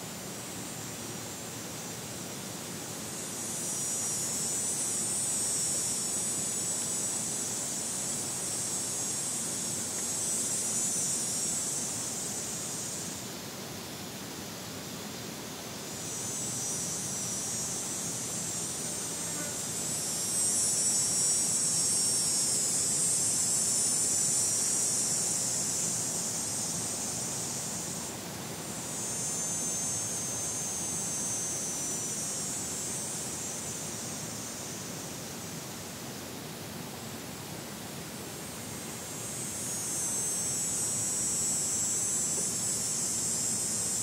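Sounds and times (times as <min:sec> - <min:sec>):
cicada buzzing: 0:00.0 - 0:44.0.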